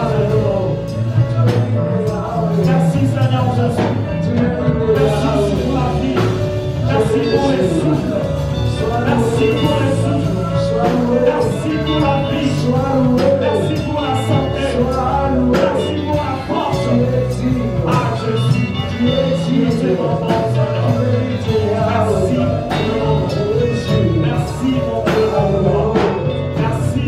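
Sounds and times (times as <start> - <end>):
live worship music with singing: 0.0 - 27.0.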